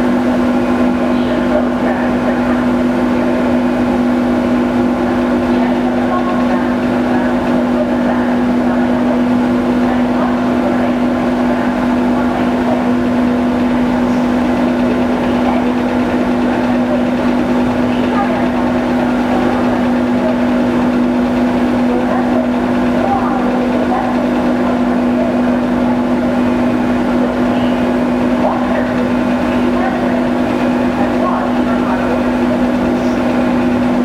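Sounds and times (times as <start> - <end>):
ferry engines droning: 0.0 - 34.0.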